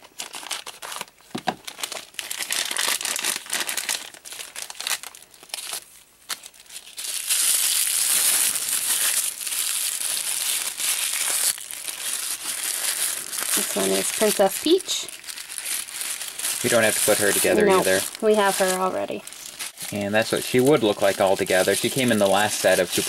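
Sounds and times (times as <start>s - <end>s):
plastic bag crinkling: 0.0s - 23.0s
tissue paper rustling: 0.0s - 23.0s.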